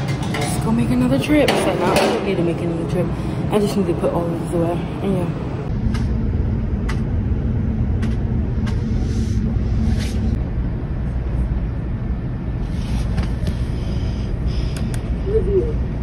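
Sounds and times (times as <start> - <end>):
low rumble: 0.0 - 16.0
hum: 2.1 - 16.0.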